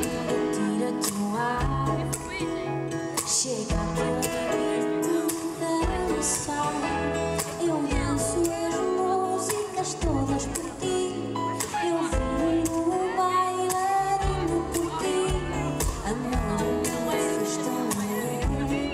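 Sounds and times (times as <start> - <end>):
live band playing a pop ballad: 0.0 - 18.9
woman singing into a microphone: 0.0 - 18.9.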